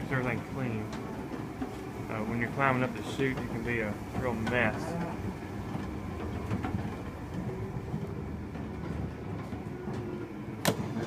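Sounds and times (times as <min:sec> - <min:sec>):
machinery rumbling: 0:00.0 - 0:11.0.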